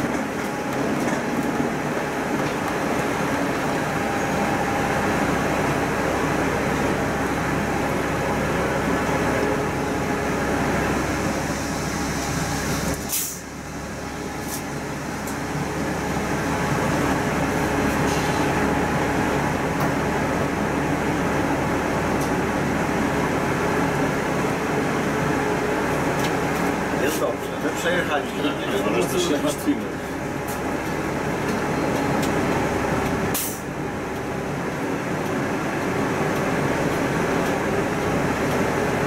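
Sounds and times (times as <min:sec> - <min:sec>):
bus engine and road noise: 0:00.0 - 0:39.0.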